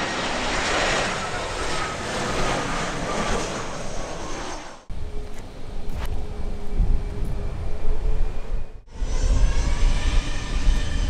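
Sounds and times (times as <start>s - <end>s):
jet engine rushing: 0.0s - 11.0s.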